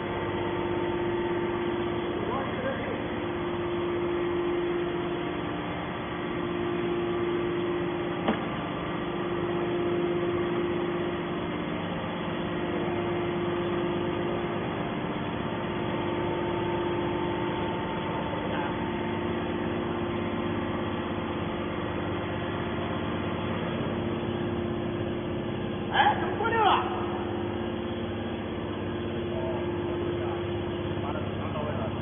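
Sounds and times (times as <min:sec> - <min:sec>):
baler machine humming: 0:00.0 - 0:32.0.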